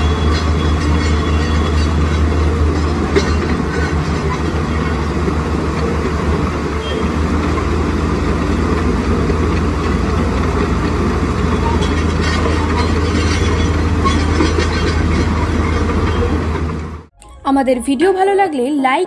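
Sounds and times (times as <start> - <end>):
diesel engine deep hum: 0.0 - 17.5.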